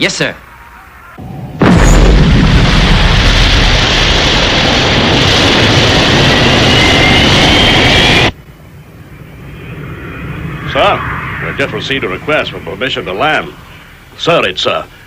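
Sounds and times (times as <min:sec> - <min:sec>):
rocket engine thrust rush: 0:01.6 - 0:14.3
faint rising whine: 0:02.8 - 0:15.0.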